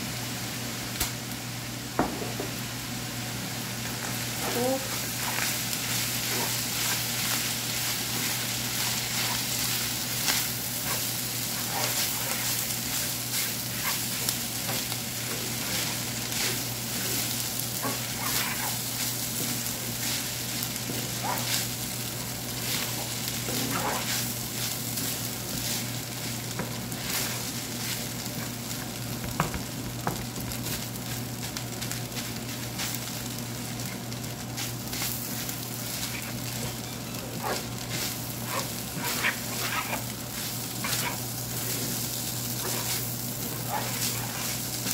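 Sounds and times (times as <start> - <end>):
food sizzling in a frying pan: 0.0 - 44.9.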